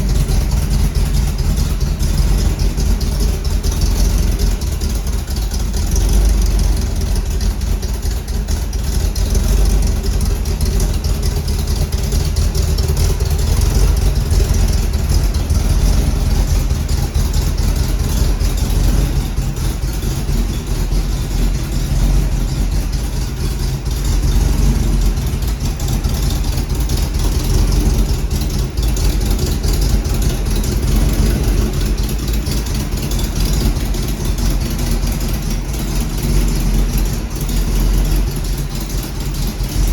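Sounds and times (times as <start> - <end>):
car engine running steadily: 0.0 - 39.9.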